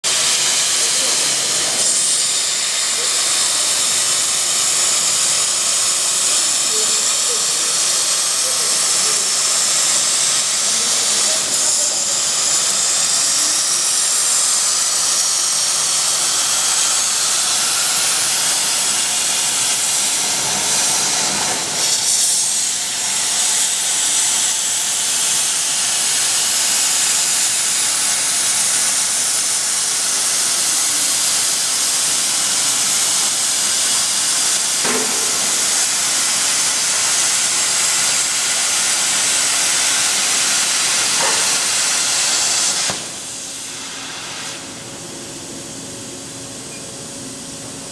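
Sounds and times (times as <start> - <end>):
plasma torch hissing: 0.1 - 46.7.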